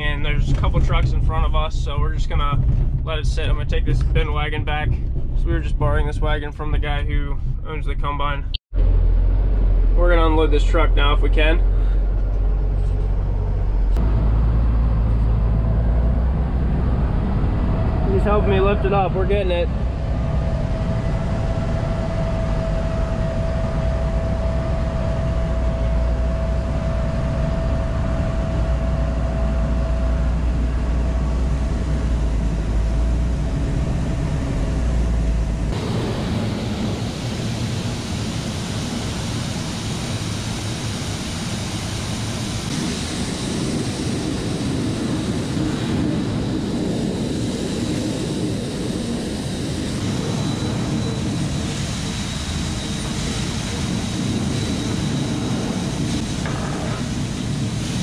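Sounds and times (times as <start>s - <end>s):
diesel truck engine rumble: 0.0s - 57.8s
hydraulic whine: 8.8s - 58.0s.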